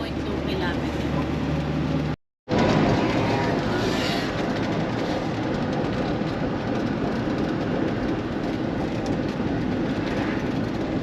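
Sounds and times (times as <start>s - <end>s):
car road noise from inside: 0.0s - 11.0s.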